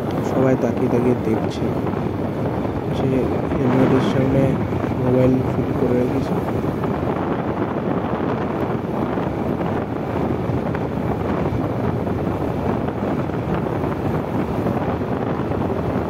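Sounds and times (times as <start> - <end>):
motorcycle road noise: 0.0 - 16.0
wind rushing over microphone: 0.0 - 16.0.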